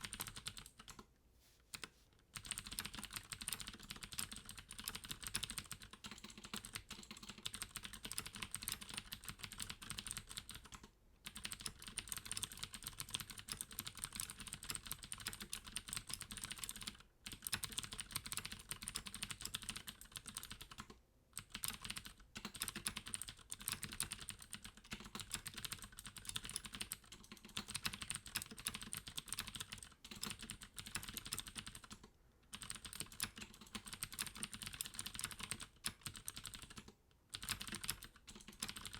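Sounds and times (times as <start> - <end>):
clicky mechanical keyboard typing: 0.0 - 1.1, 1.7 - 38.9.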